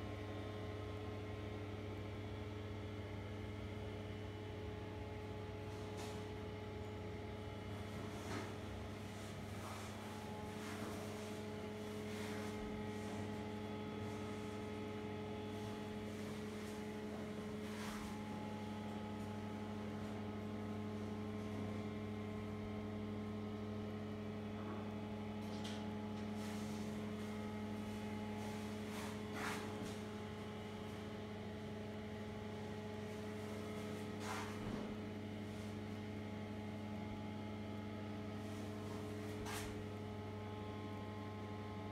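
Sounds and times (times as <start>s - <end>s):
low electrical mains hum: 0.0s - 41.9s.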